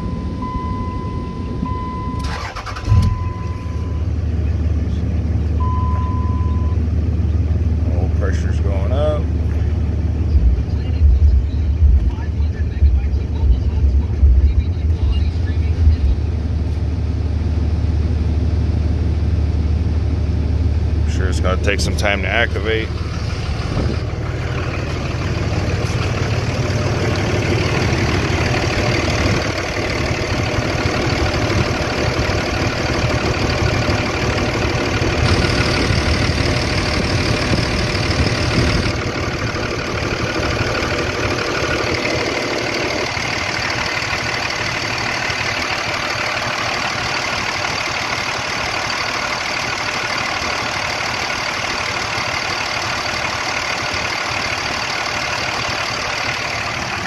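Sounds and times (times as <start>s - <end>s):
diesel engine idling with clatter: 0.0s - 57.0s.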